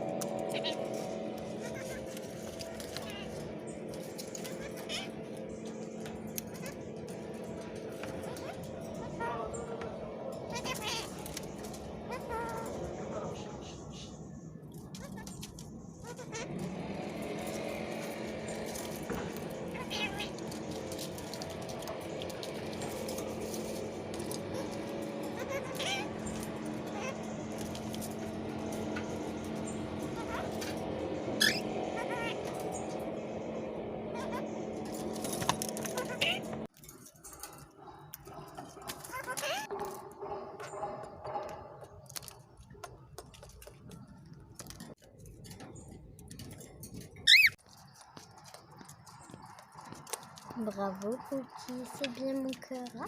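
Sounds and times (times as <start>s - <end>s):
steady low hum: 0.0s - 47.3s
parakeet chirping and chattering: 0.1s - 36.6s, 37.7s - 42.6s, 47.0s - 53.0s.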